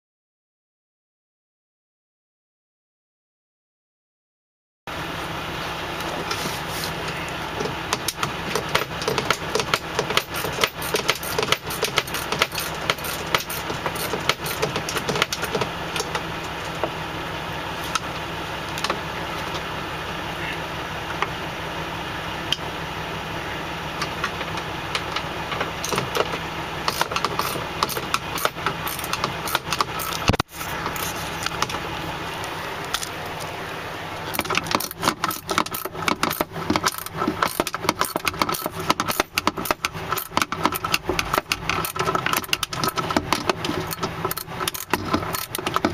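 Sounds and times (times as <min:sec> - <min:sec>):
low mechanical hum: 0:04.9 - 0:45.9.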